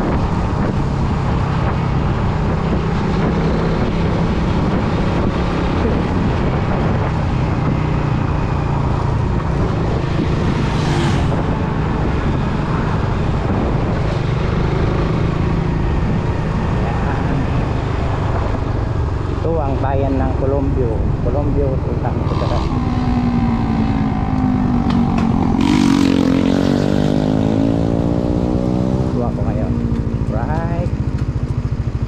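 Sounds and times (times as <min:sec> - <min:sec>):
motorcycle engine running: 0:00.0 - 0:32.0
wind rushing over microphone: 0:00.0 - 0:32.0.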